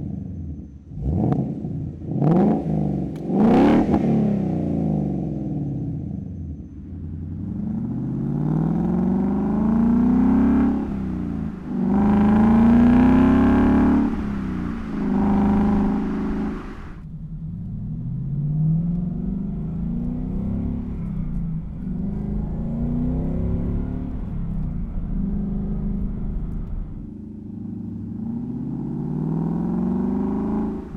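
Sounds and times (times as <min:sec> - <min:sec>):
car engine accelerating hard: 0:00.9 - 0:05.4, 0:07.4 - 0:30.9.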